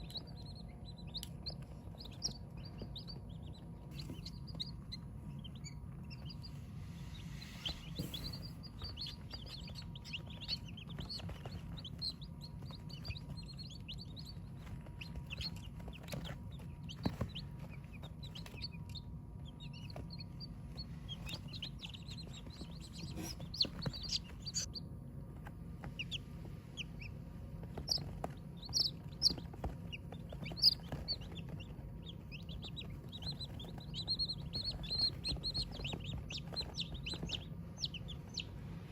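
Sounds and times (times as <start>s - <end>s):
chickens clucking: 0.0s - 24.8s, 25.8s - 38.6s
chicks peeping and chirping: 0.0s - 38.9s.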